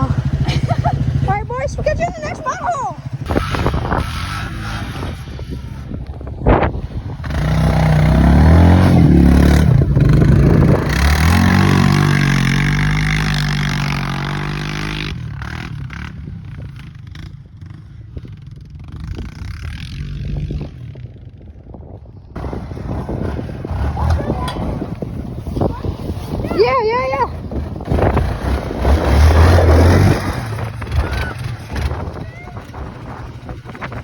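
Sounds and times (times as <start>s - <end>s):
vehicle engine revving: 0.0s - 16.2s, 22.4s - 34.0s.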